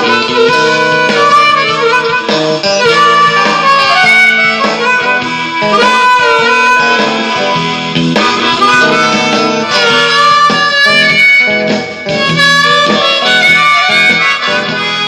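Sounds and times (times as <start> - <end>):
guitar: 0.0 - 15.0
harmonica playing bluesy line: 0.0 - 15.0.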